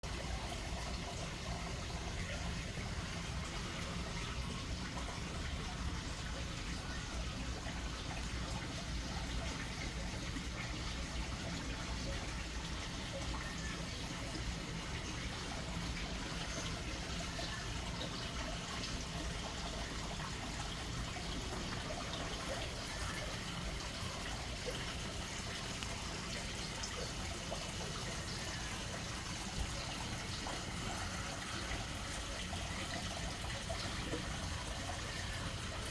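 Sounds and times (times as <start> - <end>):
waterfall splashing and trickling: 0.0 - 35.9.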